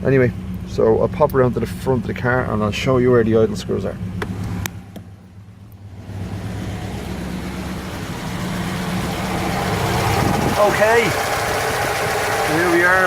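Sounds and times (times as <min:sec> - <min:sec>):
car engine idling fast: 0:00.0 - 0:13.0.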